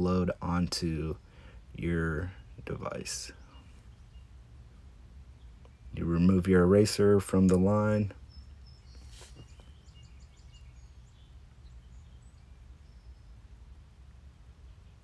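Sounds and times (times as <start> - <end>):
low outdoor rumble: 0.0 - 15.0
faint bird chirps: 1.1 - 7.2, 7.8 - 13.9.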